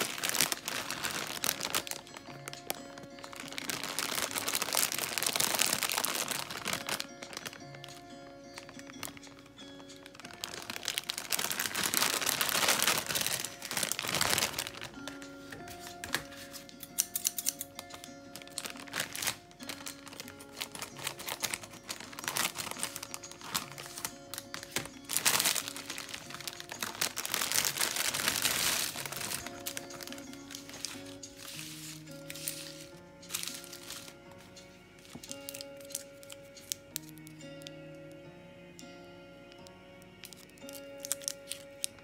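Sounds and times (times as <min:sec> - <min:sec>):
scissors snipping plastic bag: 0:00.0 - 0:08.0, 0:08.6 - 0:34.3, 0:35.0 - 0:37.7, 0:39.5 - 0:42.0
plastic bag crinkling: 0:00.0 - 0:16.3, 0:17.0 - 0:37.2, 0:40.2 - 0:42.0
background music: 0:00.0 - 0:42.0.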